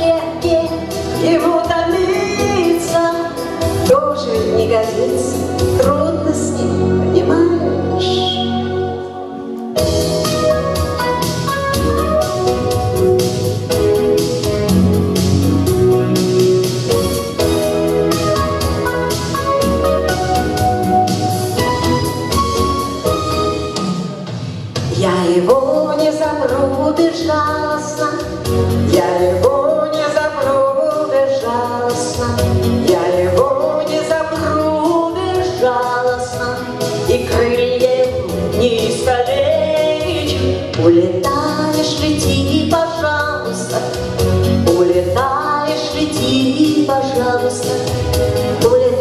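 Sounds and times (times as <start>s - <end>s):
song sung over instrumental music: 0.0s - 49.0s.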